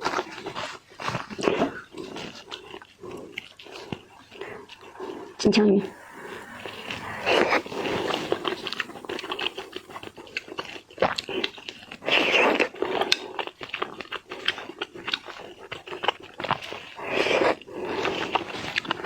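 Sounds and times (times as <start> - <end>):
wet chewing and crunching: 0.0 - 19.0.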